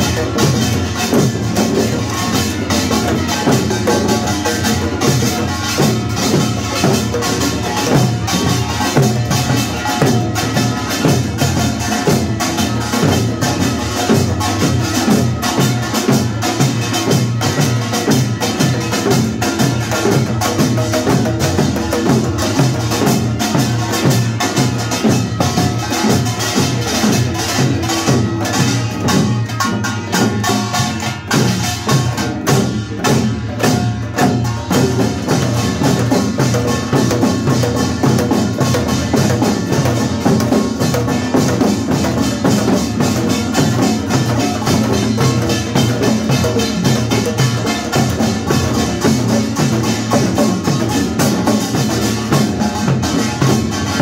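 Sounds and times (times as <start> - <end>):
percussion ensemble drums and gongs: 0.0 - 54.0.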